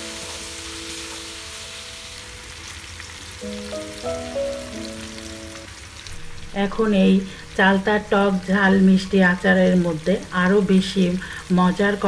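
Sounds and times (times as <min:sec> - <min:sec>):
food frying in oil sizzling: 0:00.0 - 0:12.0.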